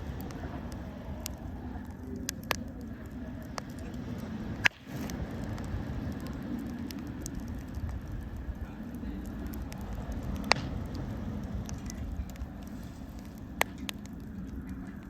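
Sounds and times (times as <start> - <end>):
campfire crackling and popping: 0.0 - 15.0
low rumble: 0.0 - 15.0.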